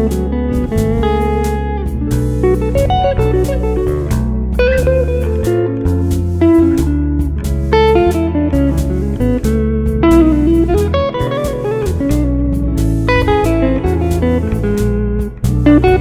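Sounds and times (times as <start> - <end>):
blues guitar music: 0.0 - 16.0.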